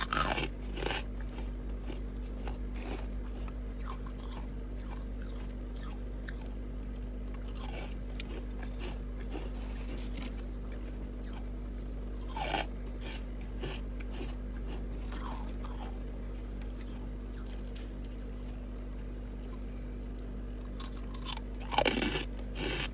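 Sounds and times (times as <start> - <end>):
person crunching frost: 0.0 - 6.5, 7.2 - 18.3, 20.7 - 22.9
steady low hum: 0.0 - 22.9.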